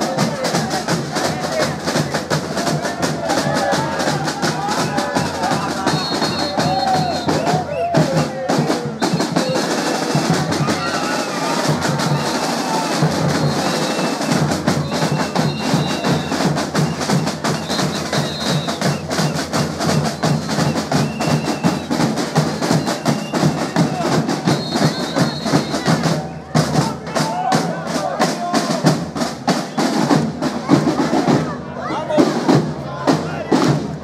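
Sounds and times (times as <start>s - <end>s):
drums and percussion beat: 0.0s - 34.0s
voices: 0.0s - 34.0s.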